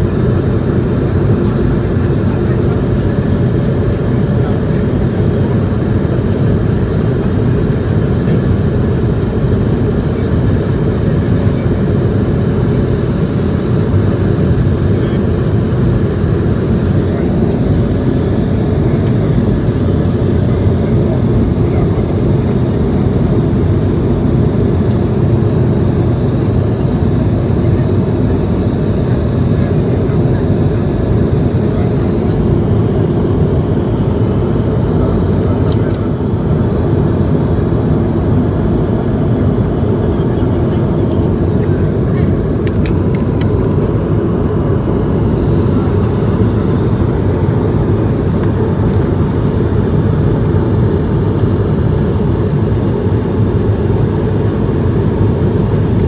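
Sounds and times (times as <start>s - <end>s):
airplane cabin noise: 0.0s - 56.0s.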